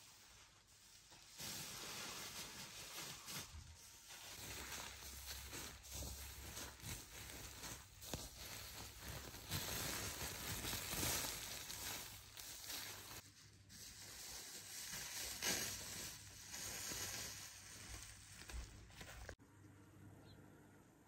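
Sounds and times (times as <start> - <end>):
plastic sack crinkling: 0.0 - 19.4
straw rustling and crunching: 0.2 - 19.4.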